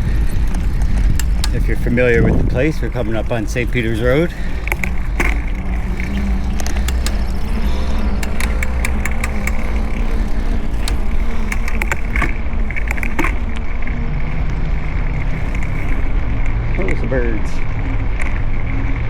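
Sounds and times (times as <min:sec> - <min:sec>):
bike clicks and rattles: 0:00.0 - 0:19.0
wind rumble on microphone: 0:00.0 - 0:19.0.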